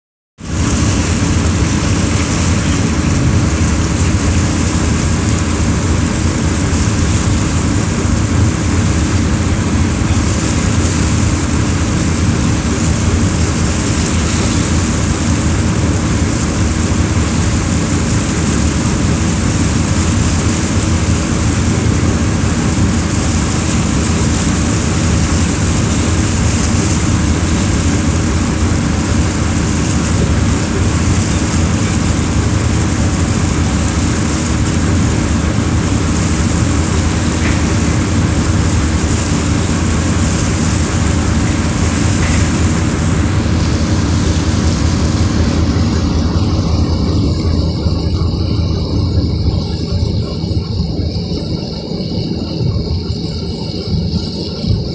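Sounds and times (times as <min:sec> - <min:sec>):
loud low engine drone: 0:00.4 - 0:54.9.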